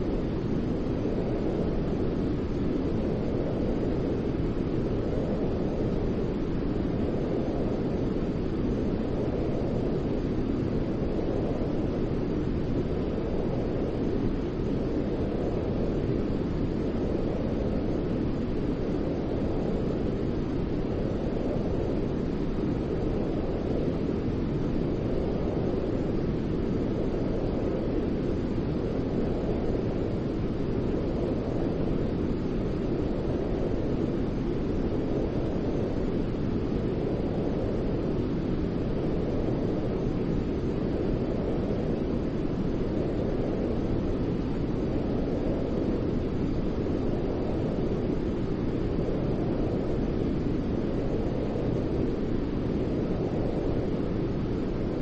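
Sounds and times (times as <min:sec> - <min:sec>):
deep rumbling white noise: 0:00.0 - 0:55.0.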